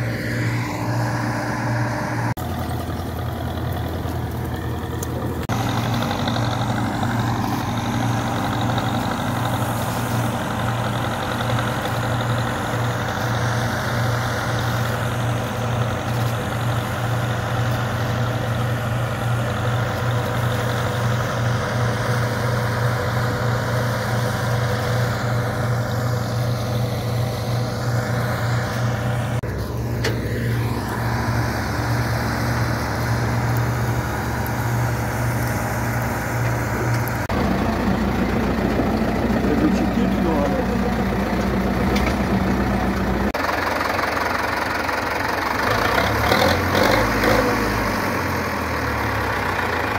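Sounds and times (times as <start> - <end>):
tractor diesel engine droning: 0.0 - 49.9.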